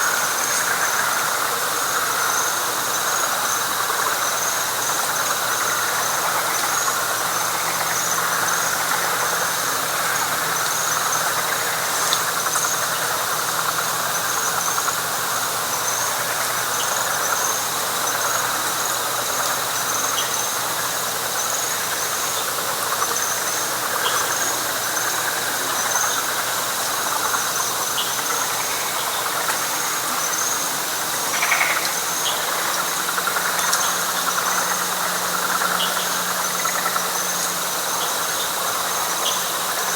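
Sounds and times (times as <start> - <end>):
frogs chorus: 0.0 - 39.9.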